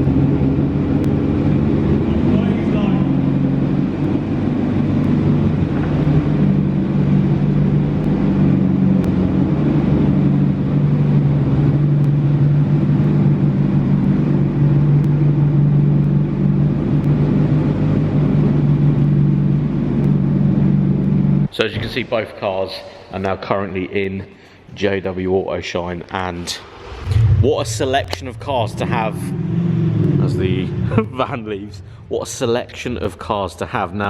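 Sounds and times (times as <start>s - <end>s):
engine droning steadily: 0.0s - 21.9s, 26.5s - 34.0s.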